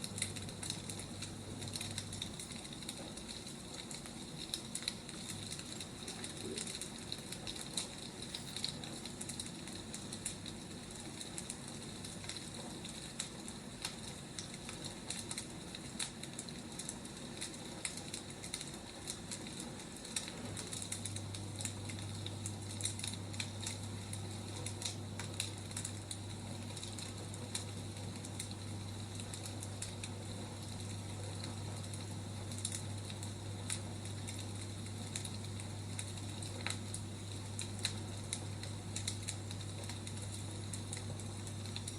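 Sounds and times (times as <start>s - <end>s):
steady low hum: 0.0s - 14.5s, 16.1s - 41.9s
wood fire crackling: 0.0s - 41.9s.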